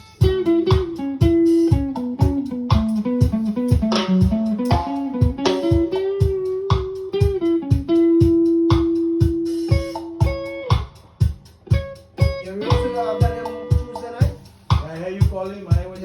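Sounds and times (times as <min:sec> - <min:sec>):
guitar melody: 0:00.0 - 0:14.4
steady low beat: 0:00.0 - 0:16.0.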